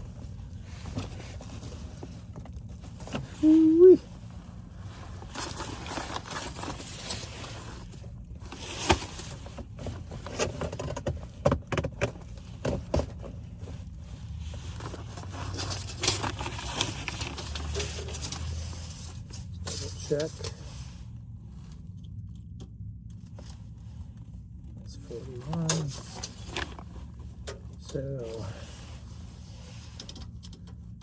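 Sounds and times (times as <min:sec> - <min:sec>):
rustling and scraping: 0:00.0 - 0:31.0.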